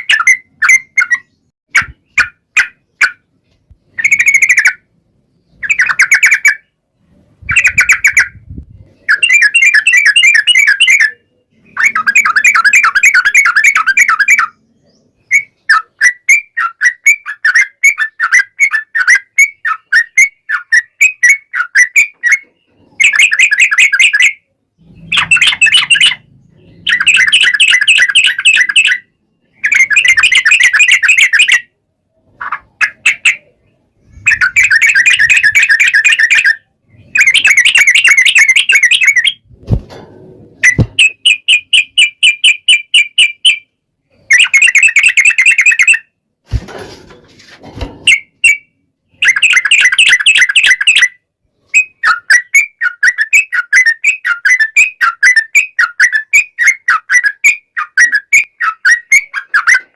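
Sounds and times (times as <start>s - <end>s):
bird chattering song: 0.0s - 39.6s, 40.6s - 46.1s, 48.0s - 59.9s.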